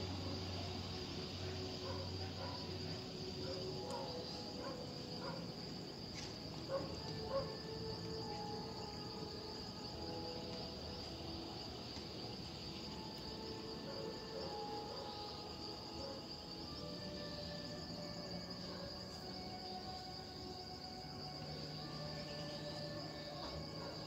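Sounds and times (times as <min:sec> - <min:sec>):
night insects chirping: 0:00.0 - 0:24.0.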